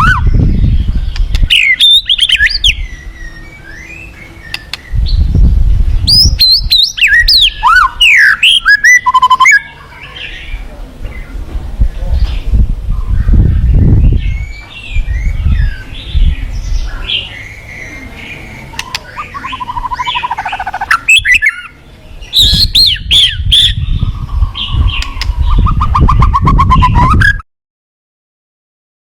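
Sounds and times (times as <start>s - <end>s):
songbird singing whistles and trills: 0.0s - 10.6s, 12.3s - 27.4s
low rumbling noise: 0.0s - 27.4s.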